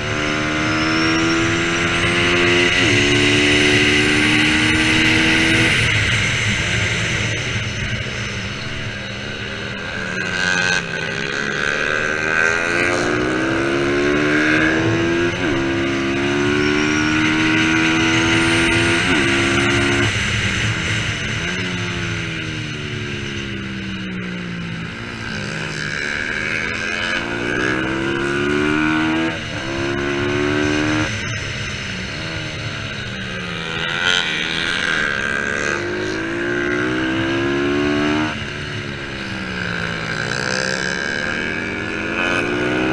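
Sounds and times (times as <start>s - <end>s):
racing motorcycle engine accelerating: 0.0s - 42.9s.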